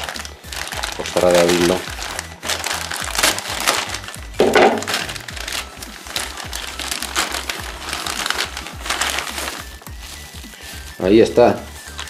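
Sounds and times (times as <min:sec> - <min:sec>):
background music: 0:00.0 - 0:12.0
plastic bag crinkling: 0:00.0 - 0:12.0.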